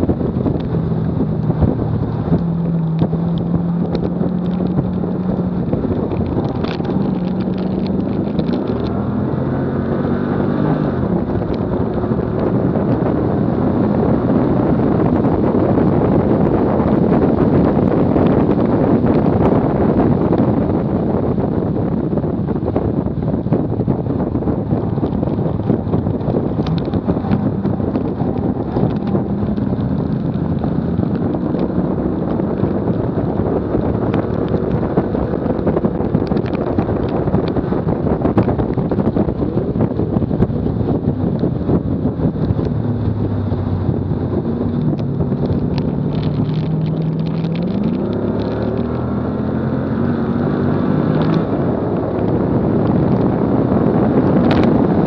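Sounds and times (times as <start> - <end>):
car engine accelerating: 0.0 - 55.0
wind rushing over camera: 0.0 - 55.0.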